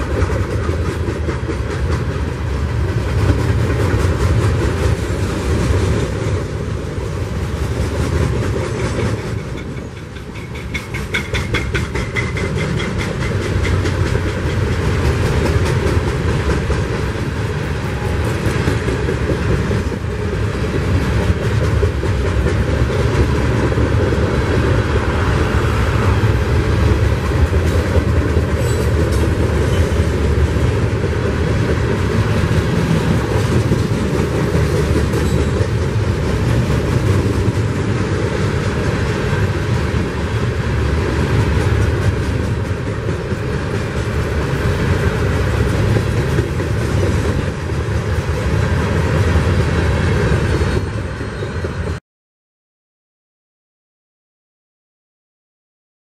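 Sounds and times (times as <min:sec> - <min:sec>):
steel wheels running on rails: 0:00.0 - 0:52.0.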